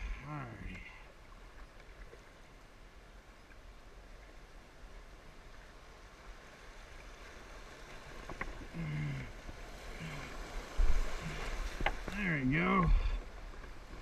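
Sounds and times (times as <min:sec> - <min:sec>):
rushing creek water: 0:00.0 - 0:14.0.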